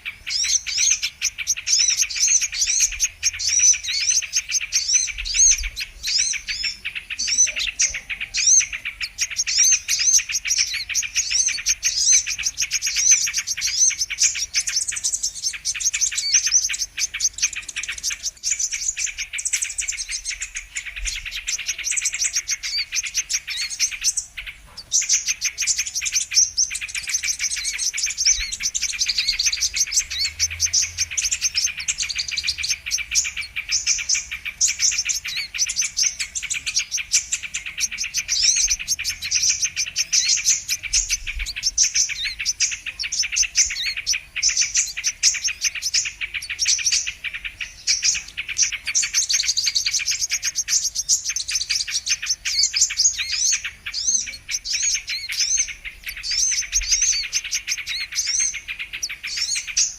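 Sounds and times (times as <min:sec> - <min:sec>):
bird twittering: 0:00.0 - 0:59.9.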